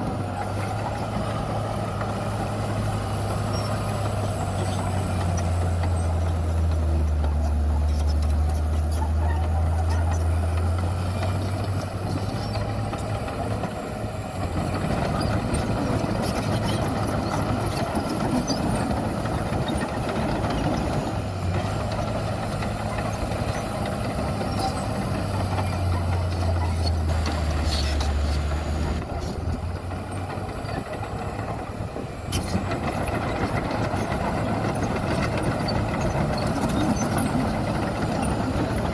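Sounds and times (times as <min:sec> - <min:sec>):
constant rumble: 0:00.0 - 0:38.9
diesel engine drone: 0:00.0 - 0:38.9.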